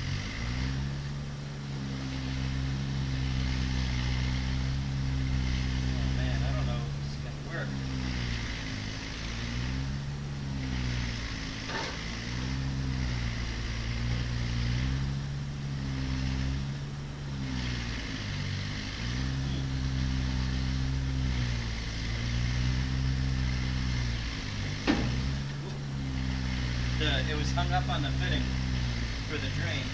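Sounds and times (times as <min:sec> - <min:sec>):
motor humming: 0:00.0 - 0:29.9.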